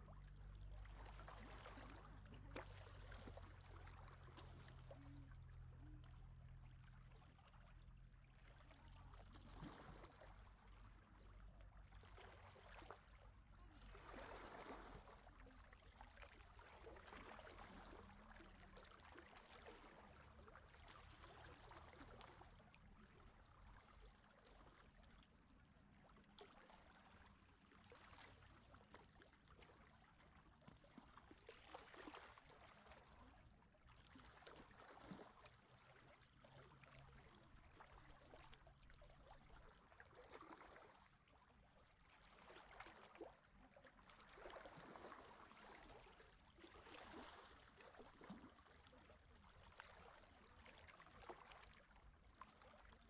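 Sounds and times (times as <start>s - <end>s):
small waves lapping on shore: 0.0s - 53.0s.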